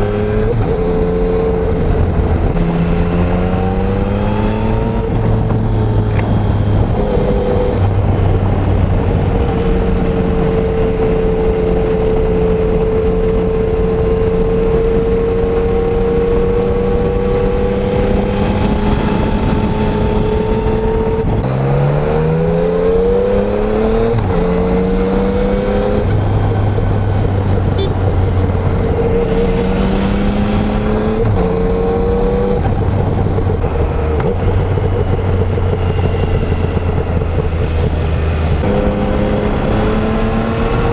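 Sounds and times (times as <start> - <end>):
motorcycle engine revving: 0.0 - 40.9
wind rushing: 0.0 - 40.9.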